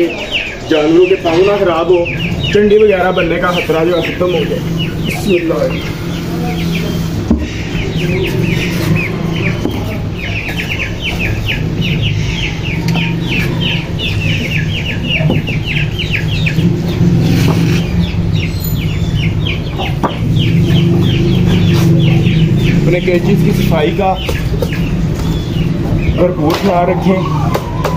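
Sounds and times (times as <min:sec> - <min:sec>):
chicks cheeping: 0:00.0 - 0:27.9.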